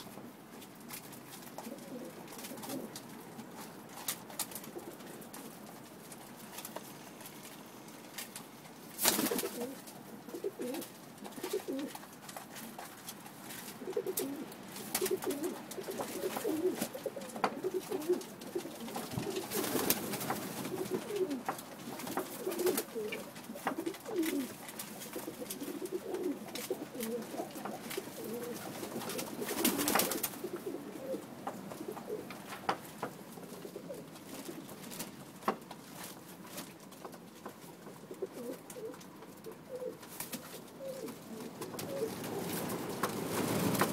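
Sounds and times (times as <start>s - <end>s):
beaks pecking grain: 0.6s - 43.9s
pigeons cooing: 1.5s - 5.8s, 9.0s - 35.1s, 37.9s - 43.9s.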